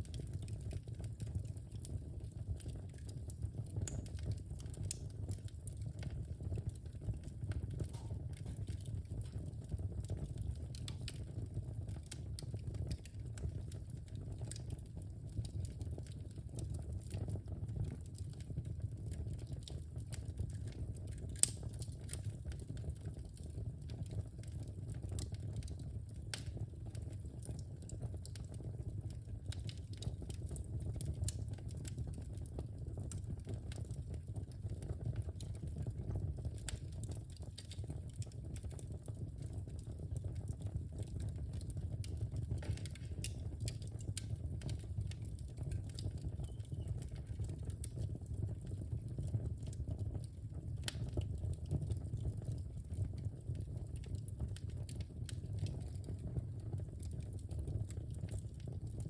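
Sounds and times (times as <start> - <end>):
fire crackling and popping: 0.0 - 59.0
fire rumbling in fireplace: 0.0 - 59.0.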